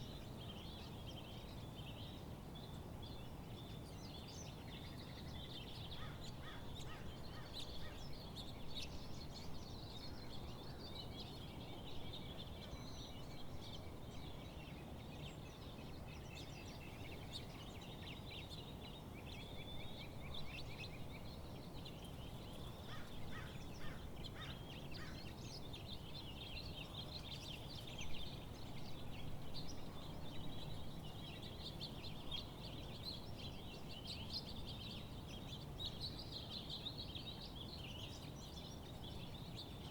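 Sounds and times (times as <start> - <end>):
low outdoor background noise: 0.0 - 39.9.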